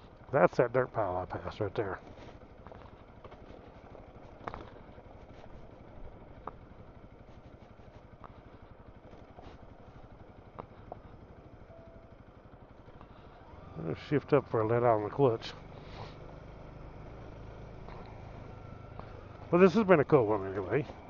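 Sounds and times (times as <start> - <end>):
faint motorcycle engine: 0.0 - 21.0.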